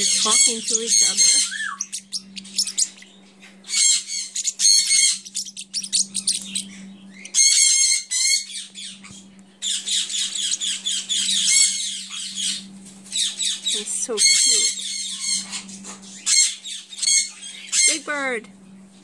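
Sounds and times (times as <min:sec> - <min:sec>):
parrotlets chattering: 0:00.0 - 0:18.4.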